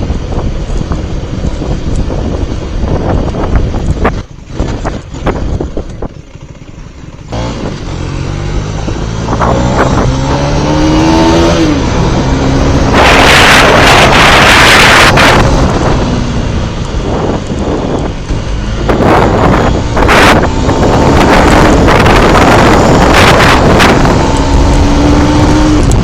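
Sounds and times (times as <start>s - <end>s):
motorcycle engine accelerating: 0.0s - 26.0s
wind buffeting microphone: 0.0s - 26.0s.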